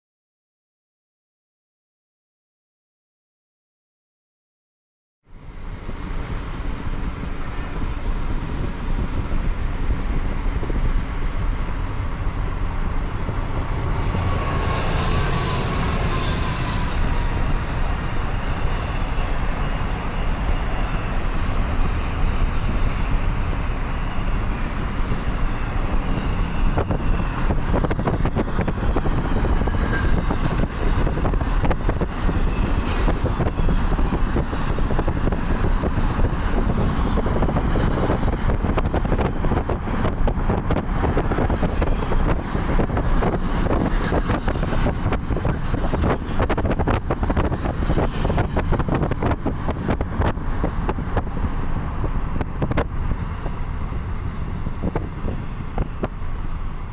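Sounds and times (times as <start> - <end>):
train wheels rumbling on rails: 5.4 - 56.9.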